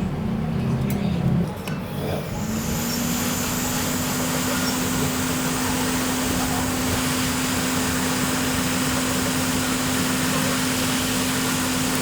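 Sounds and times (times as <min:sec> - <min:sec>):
electric blower running: 0:02.3 - 0:12.0.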